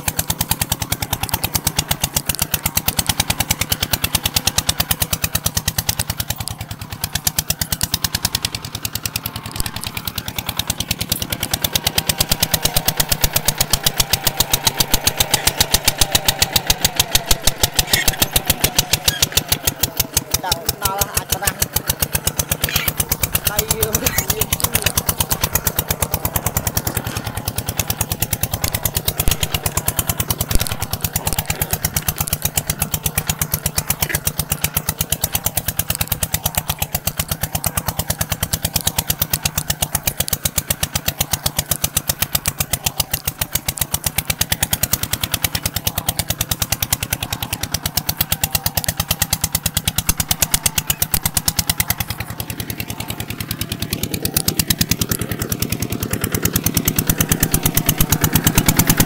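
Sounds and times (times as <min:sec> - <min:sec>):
diesel engine puttering: 0:00.0 - 0:59.0.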